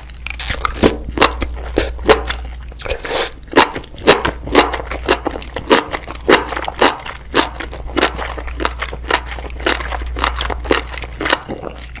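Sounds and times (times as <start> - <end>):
low steady hum: 0.0 - 12.0
person chewing: 0.0 - 12.0.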